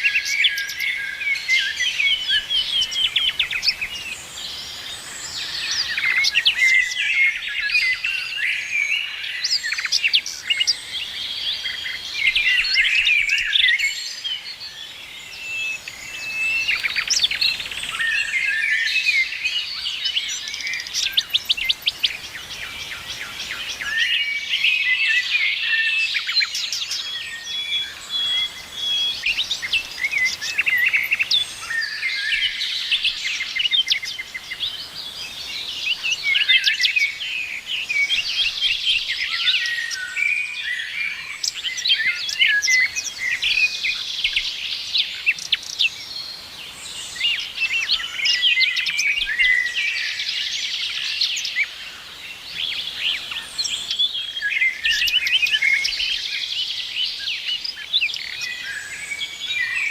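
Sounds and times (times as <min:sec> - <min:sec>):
songbirds chorus: 0:00.0 - 0:59.9.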